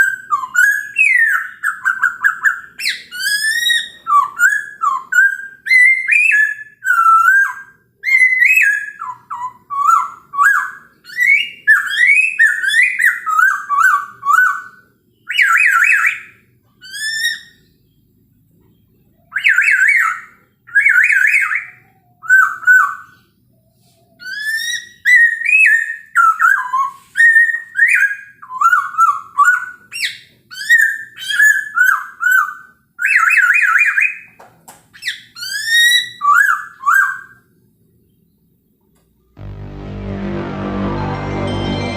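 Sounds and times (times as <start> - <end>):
bird whistling song with trills: 0.0 - 17.8, 19.2 - 23.2, 24.2 - 34.3, 35.0 - 37.4.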